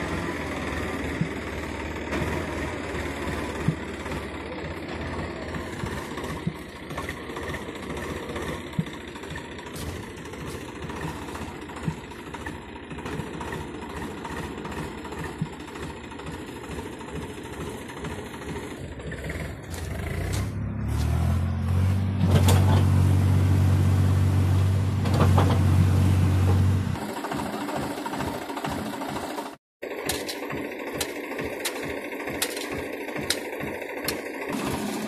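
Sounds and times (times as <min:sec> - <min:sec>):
tractor diesel engine revving: 0:00.0 - 0:35.0.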